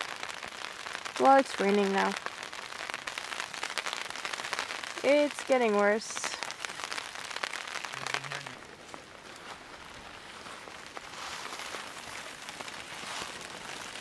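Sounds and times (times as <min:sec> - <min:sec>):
rain pattering on a tarp: 0:00.0 - 0:14.0.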